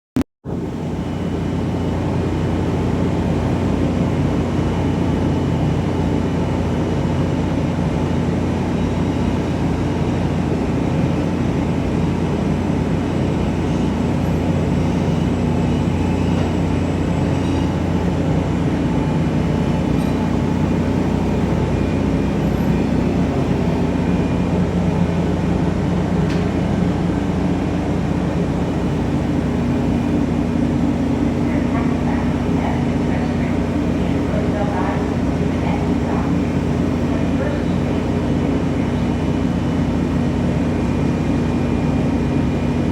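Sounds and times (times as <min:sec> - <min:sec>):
subway rail equipment rumble: 0:00.5 - 0:42.9.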